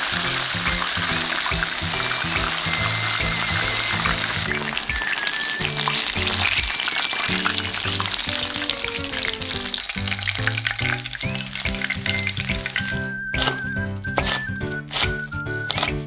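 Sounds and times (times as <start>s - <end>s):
chicken sizzling in frying pan: 0.0s - 16.0s.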